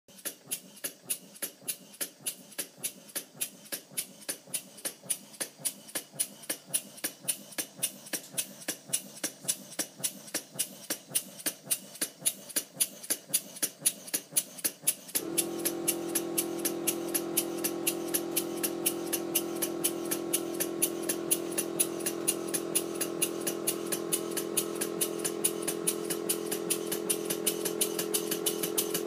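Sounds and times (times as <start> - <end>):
model steam engine exhaust puffs: 0.2 - 29.0.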